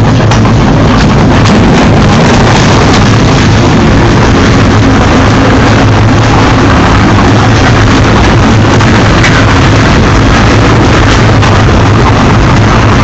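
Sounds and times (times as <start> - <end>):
grinder engine running: 0.0 - 13.0.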